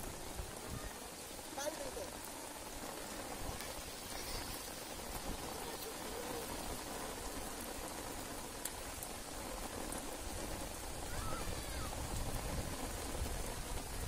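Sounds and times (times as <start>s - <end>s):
rain falling on shallow water: 0.0s - 14.0s.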